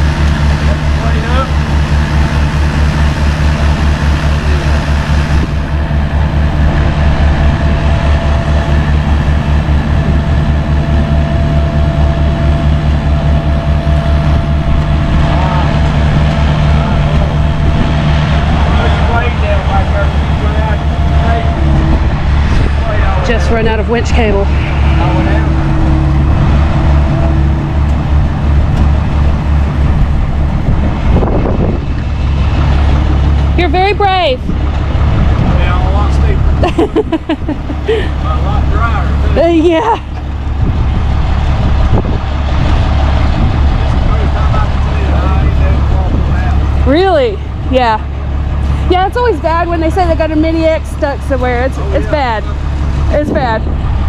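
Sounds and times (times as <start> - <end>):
heavy diesel engine throbbing: 0.0 - 54.0.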